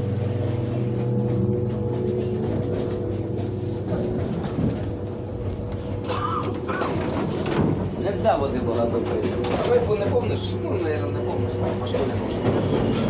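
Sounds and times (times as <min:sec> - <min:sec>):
train carriage running hum: 0:00.0 - 0:13.0
train rumble: 0:00.0 - 0:13.0.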